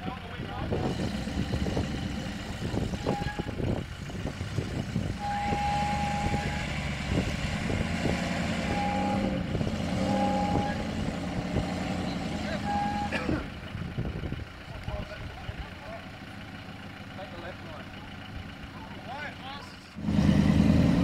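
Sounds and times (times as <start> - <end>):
truck engine at low revs: 0.0 - 21.0.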